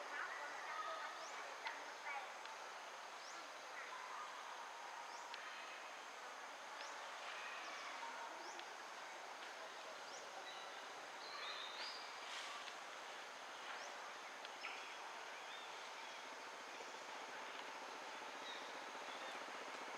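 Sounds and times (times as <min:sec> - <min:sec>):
steady outdoor hiss: 0:00.0 - 0:19.9.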